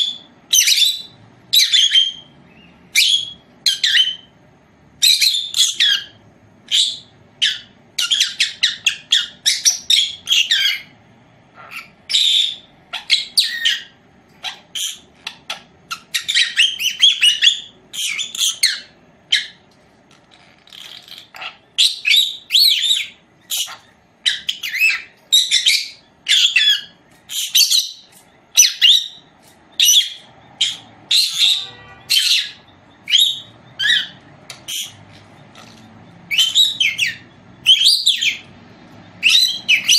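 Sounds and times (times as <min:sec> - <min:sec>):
parrot chirping and squawking: 0:00.0 - 0:39.9.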